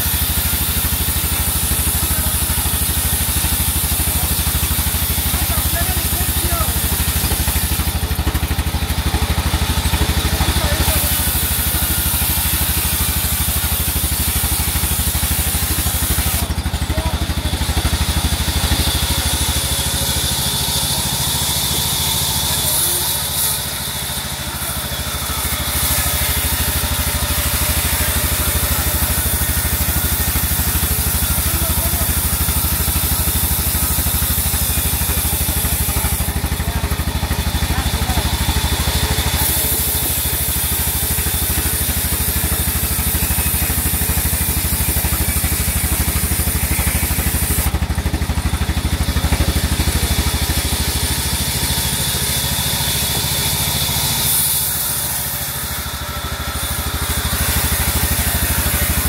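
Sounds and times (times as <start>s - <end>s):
band saw machinery hum: 0.0s - 59.0s.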